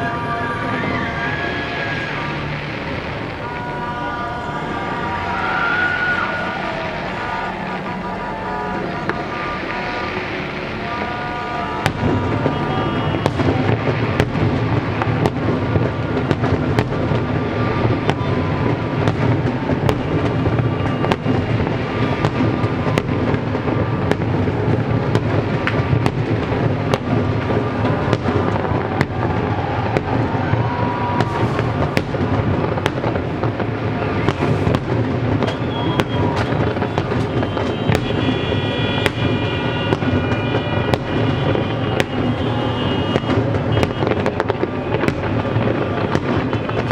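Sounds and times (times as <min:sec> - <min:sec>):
fireworks bangs and cracks: 0:00.0 - 0:46.9
low rumble of barrage: 0:00.0 - 0:46.9
music playing: 0:00.0 - 0:46.9.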